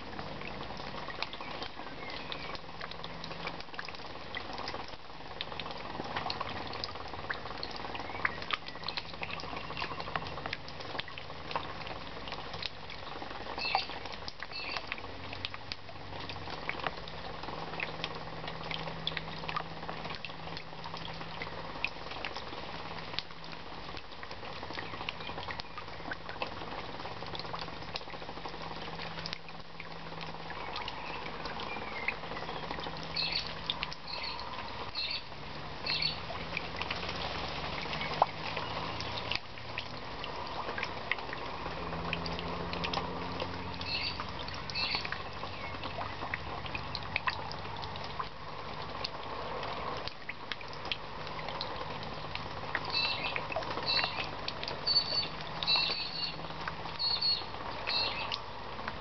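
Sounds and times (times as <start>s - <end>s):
water drops splashing in puddle: 0.0s - 59.0s.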